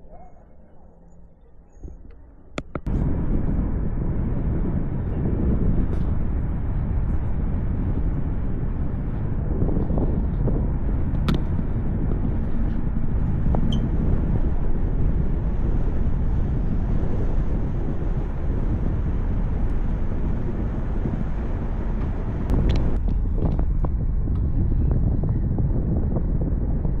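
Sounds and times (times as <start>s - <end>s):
wind rushing over microphone: 1.8s - 27.0s.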